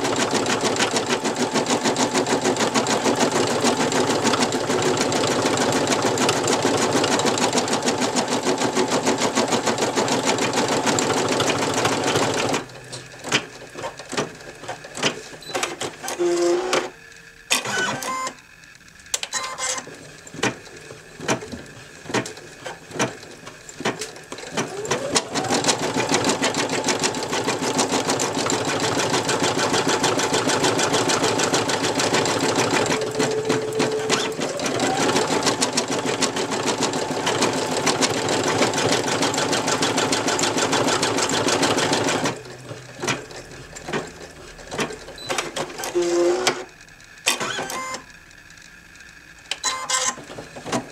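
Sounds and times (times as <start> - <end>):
embroidery machine stitching: 0.0 - 18.4, 19.1 - 48.1, 49.5 - 50.9.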